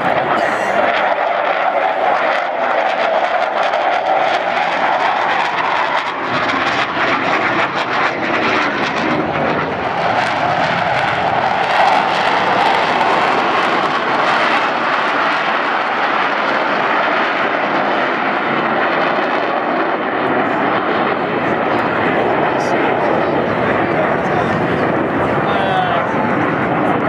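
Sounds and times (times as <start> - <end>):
fighter jets flying past: 0.0 - 27.0.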